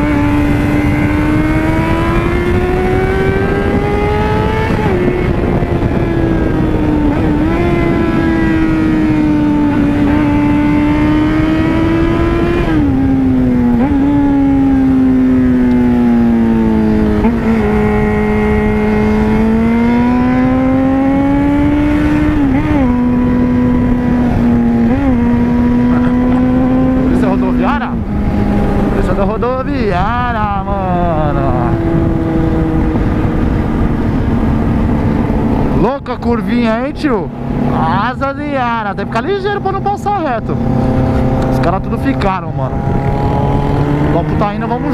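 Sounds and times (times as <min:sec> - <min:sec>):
motorcycle engine at high revs: 0:00.0 - 0:44.9
wind rush: 0:00.0 - 0:44.9.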